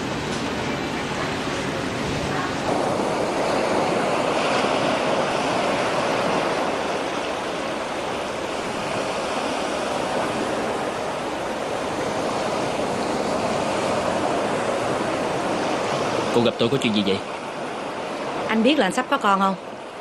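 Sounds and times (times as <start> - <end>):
waves washing in: 0.0 - 20.0.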